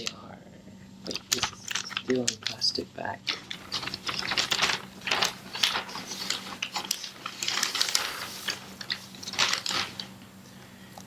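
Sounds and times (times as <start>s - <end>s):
plastic bag crinkling: 1.1s - 10.2s.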